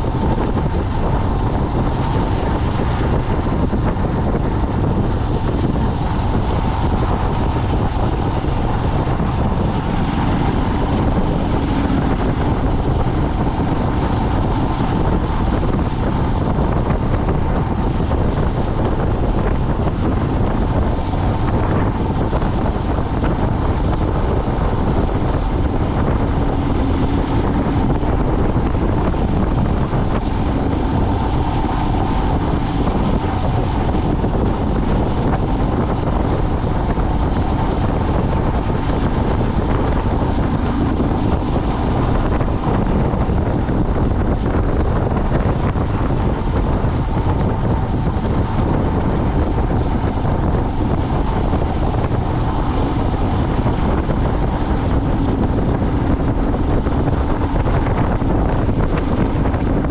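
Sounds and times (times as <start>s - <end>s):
engine and road noise drone: 0.0s - 59.9s
faint engine hum: 0.0s - 59.9s
wind buffeting microphone: 0.0s - 59.9s.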